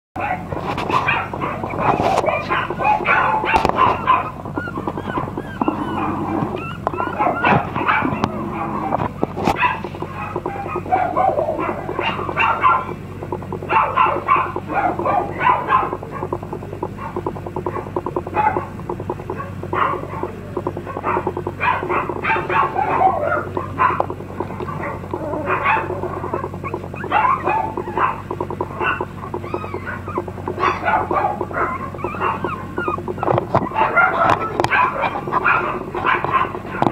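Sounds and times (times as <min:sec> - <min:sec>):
puppies whimpering and yipping: 0:00.2 - 0:36.9.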